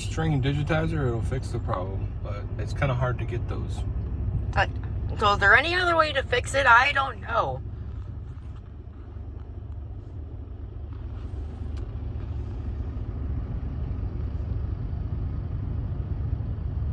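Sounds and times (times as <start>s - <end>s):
truck engine rumble: 0.0s - 16.9s.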